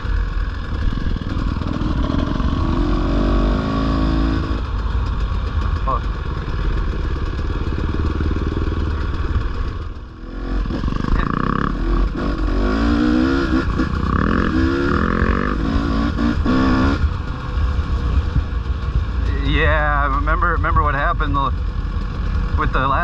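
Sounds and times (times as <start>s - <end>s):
dirt bike engine revving: 0.0s - 18.5s.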